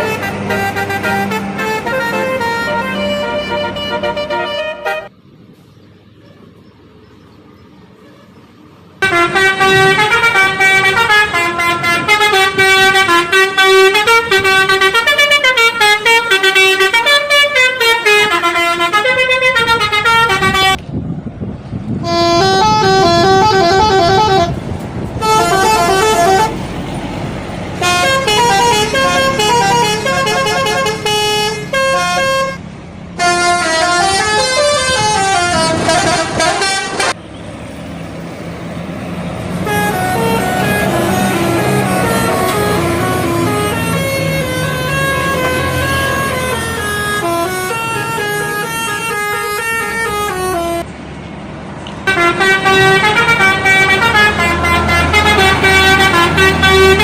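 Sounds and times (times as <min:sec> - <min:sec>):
bus musical horns playing runs: 0:00.0 - 0:05.1, 0:09.0 - 0:20.8, 0:21.9 - 0:37.2, 0:39.4 - 0:50.9, 0:52.0 - 0:57.0
engine and traffic rumble: 0:00.0 - 0:57.0.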